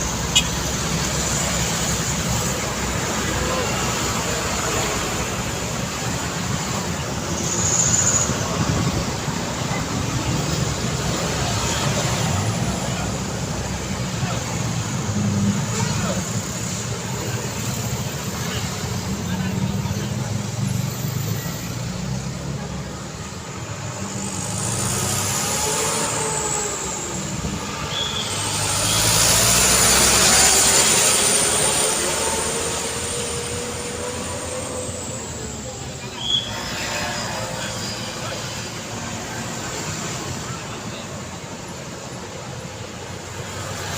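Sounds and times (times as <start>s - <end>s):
road traffic passing: 0.0s - 43.9s
vehicle engines running: 0.0s - 43.9s.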